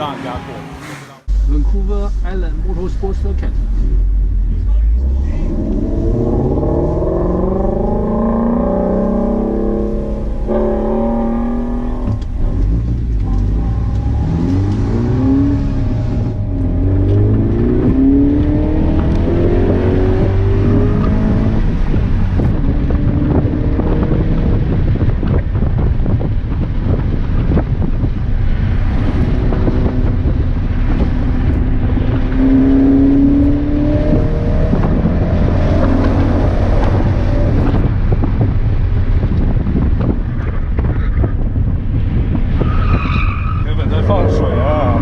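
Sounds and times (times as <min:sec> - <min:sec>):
car engine accelerating: 0:00.0 - 0:45.0
road and wind noise: 0:00.0 - 0:45.0.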